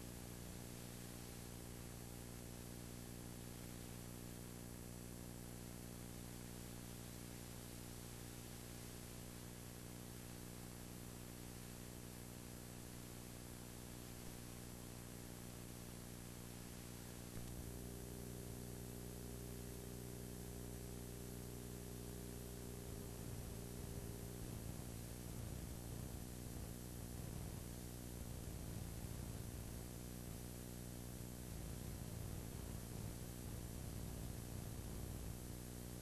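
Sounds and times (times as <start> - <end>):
electrical hum: 0.0 - 36.0
tape hiss: 0.0 - 36.0.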